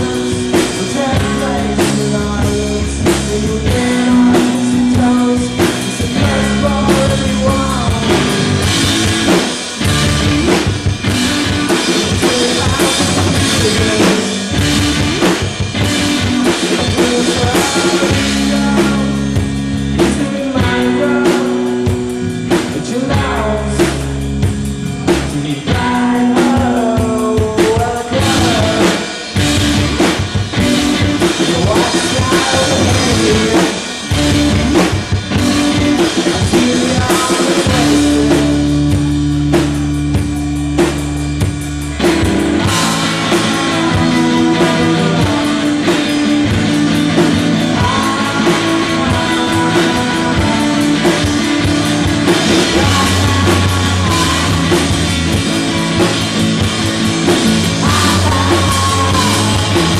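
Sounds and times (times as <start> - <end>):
drum kit beat: 0.0 - 59.9
electric bass: 0.0 - 59.9
electric guitar: 0.0 - 59.9.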